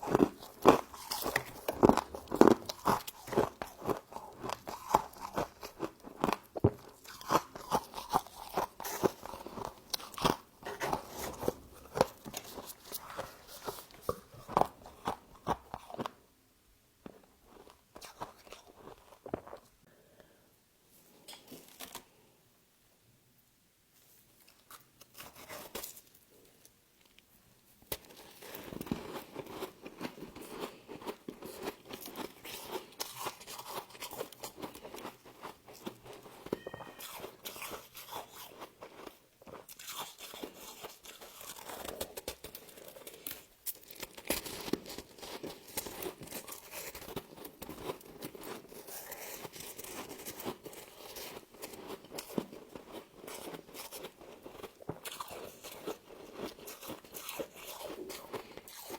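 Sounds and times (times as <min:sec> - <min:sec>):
crunching and chewing frost: 0:00.0 - 0:16.2, 0:17.0 - 0:19.8, 0:21.0 - 0:22.4, 0:24.0 - 0:58.9.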